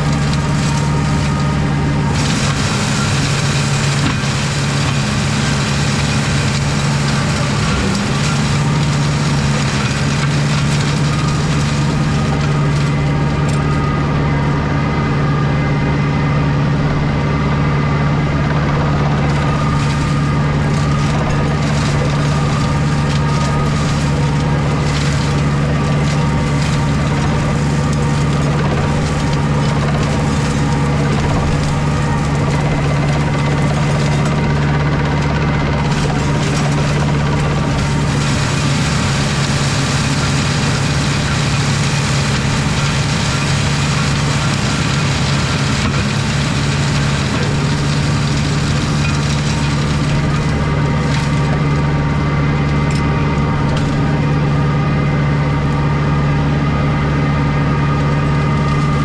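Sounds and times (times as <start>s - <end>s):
mulcher shredding brambles: 0.0s - 59.0s
tractor engine under load: 0.0s - 59.0s.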